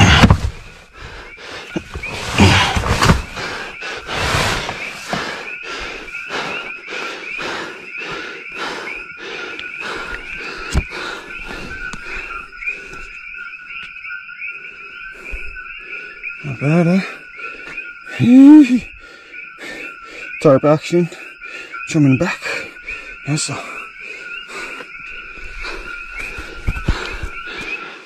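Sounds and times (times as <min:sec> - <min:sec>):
frogs chirping: 0:00.0 - 0:28.0.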